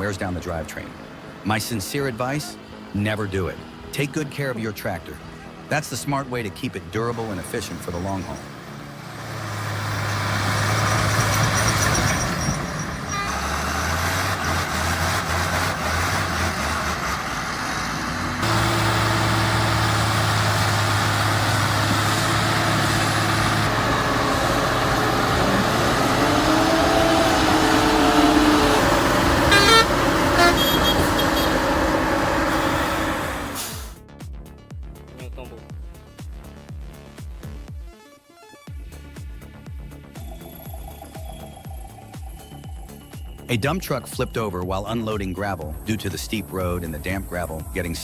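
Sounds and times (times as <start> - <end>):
heavy vehicle engines running: 0.0 - 34.0, 40.2 - 48.0.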